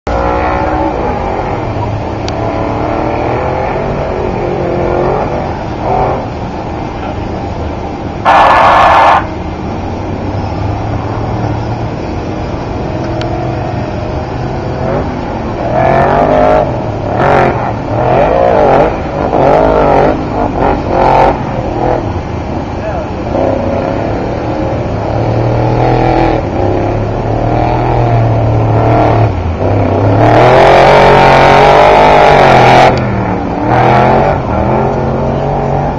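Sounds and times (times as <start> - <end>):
race truck engine revving: 0.1 - 35.9.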